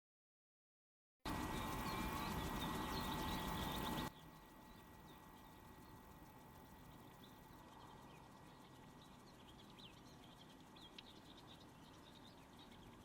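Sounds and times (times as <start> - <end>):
faint bird song chirping: 1.3 - 13.0.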